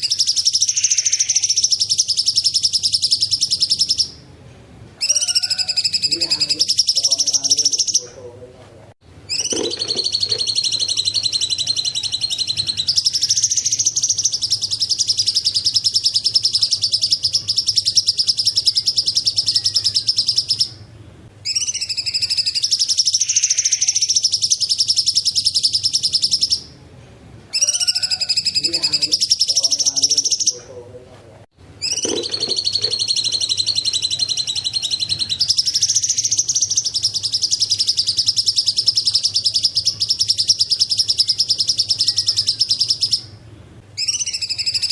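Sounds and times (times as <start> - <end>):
bird singing high trills: 0.0 - 4.2, 5.0 - 8.1, 9.3 - 26.7, 27.5 - 30.6, 31.8 - 43.4, 44.0 - 44.9
faint steady hum: 0.0 - 44.8.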